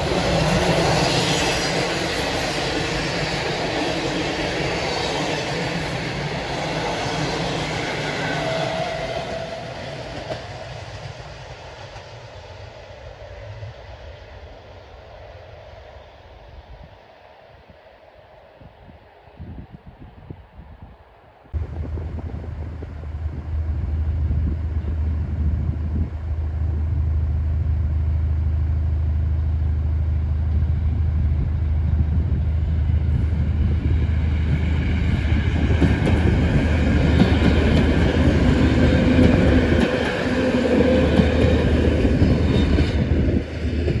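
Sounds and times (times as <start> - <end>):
train wheels rolling on rails: 0.0 - 13.8, 21.6 - 44.0
high train running tones: 0.0 - 16.9, 21.6 - 44.0.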